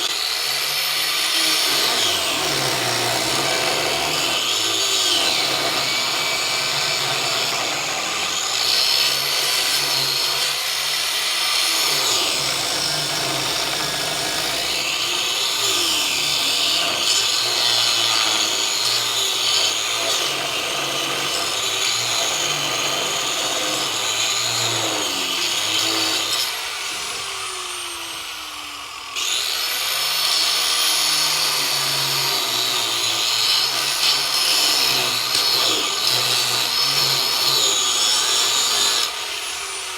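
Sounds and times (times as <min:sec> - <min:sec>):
power tool cutting bone: 0:00.0 - 0:39.9.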